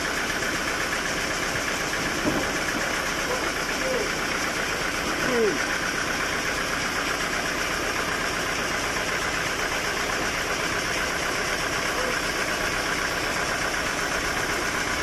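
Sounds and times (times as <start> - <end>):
sawmill machinery droning: 0.0 - 15.0.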